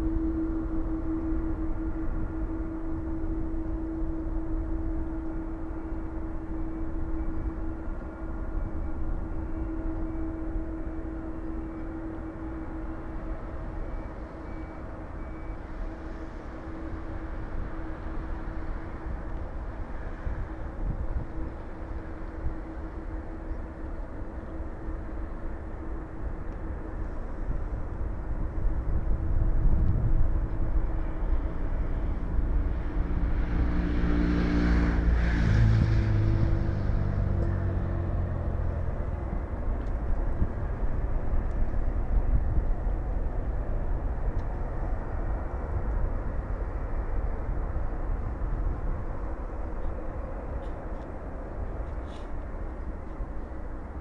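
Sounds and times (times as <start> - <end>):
jet engines rumbling: 0.0 - 54.0
jet whine passing: 0.0 - 54.0.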